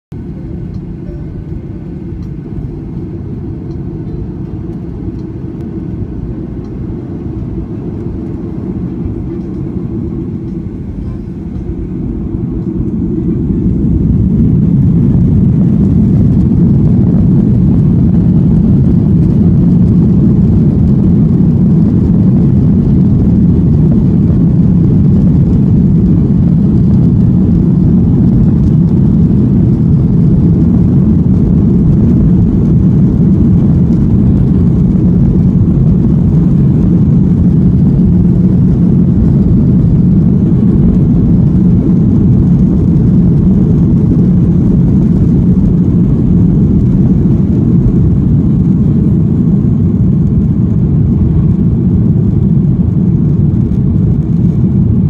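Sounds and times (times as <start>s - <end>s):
jet engines and cabin noise: 0.1s - 55.0s.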